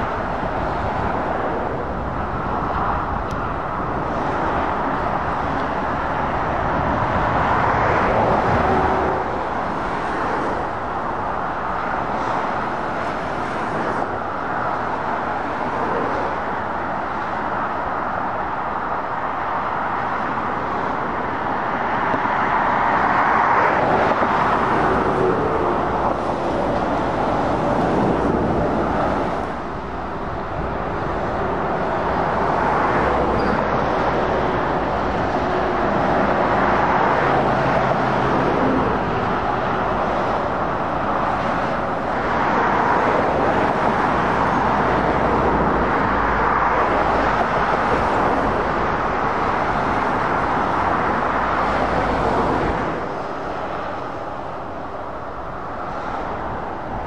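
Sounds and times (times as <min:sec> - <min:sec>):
traffic passing at speed: 0:00.0 - 0:57.0.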